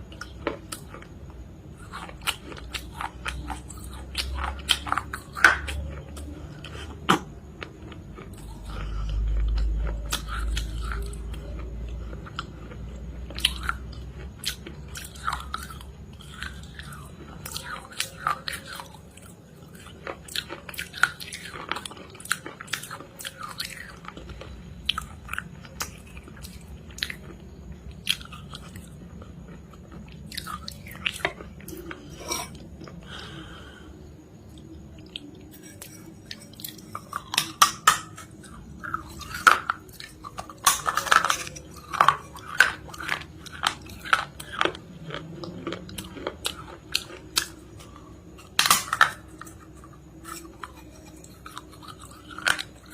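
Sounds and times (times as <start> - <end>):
crunchy chewing: 0.0 - 52.9.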